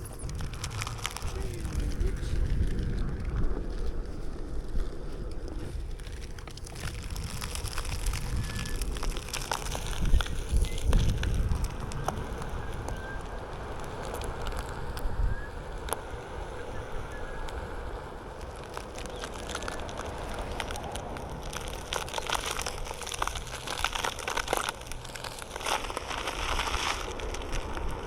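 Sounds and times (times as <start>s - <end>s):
tyre crunching over gravel: 0.0s - 28.0s
wind buffeting microphone: 0.0s - 28.0s.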